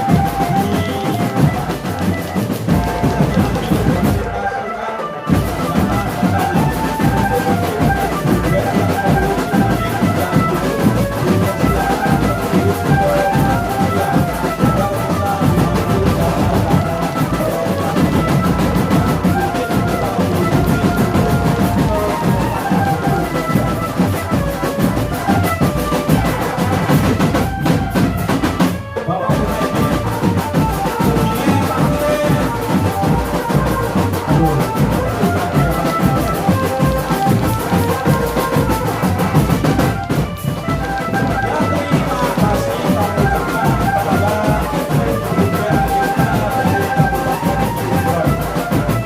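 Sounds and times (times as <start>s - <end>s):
snare and bass drums: 0.0s - 4.4s, 5.3s - 49.0s
marching band melody: 0.0s - 49.0s.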